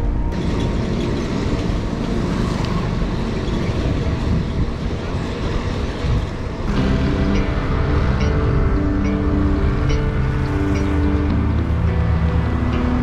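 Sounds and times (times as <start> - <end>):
road noise: 0.0 - 13.0
rushing wind: 0.0 - 13.0
traffic: 0.0 - 13.0.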